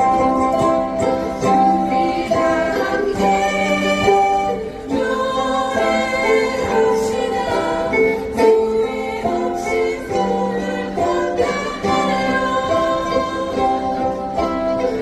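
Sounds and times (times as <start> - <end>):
strummed ukuleles: 0.0 - 15.0
group singing in unison: 1.3 - 15.0.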